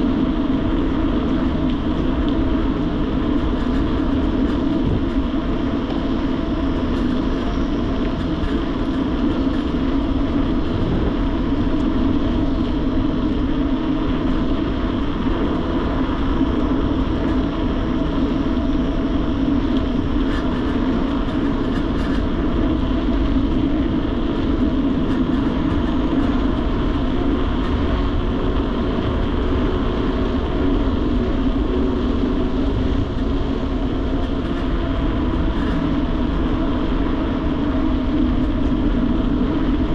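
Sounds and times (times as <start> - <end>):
bike tyres rolling on road: 0.0 - 39.9
wind over microphone: 0.0 - 39.9.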